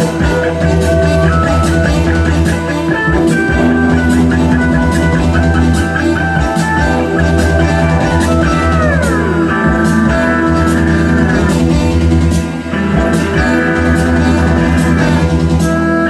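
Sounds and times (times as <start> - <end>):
drum kit beat: 0.0 - 16.0
low bass: 0.0 - 16.0
rock music with guitar melody: 0.0 - 16.0.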